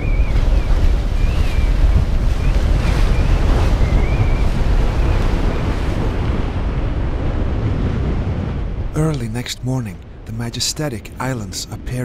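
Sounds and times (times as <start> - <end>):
waves rushing: 0.0 - 12.0
wind buffeting microphone: 0.0 - 12.0.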